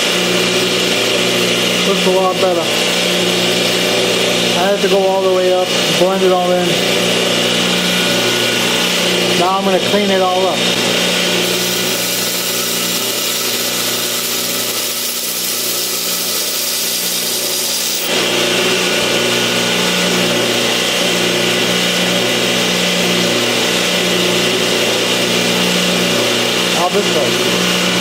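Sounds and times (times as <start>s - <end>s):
electric grinder grinding blade: 0.0s - 28.0s.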